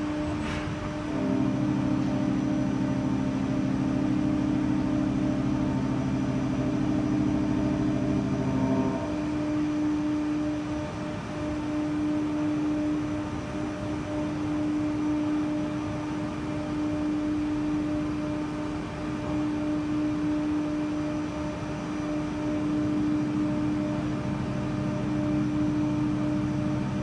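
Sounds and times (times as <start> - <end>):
milling machine cutting metal: 0.0 - 27.0.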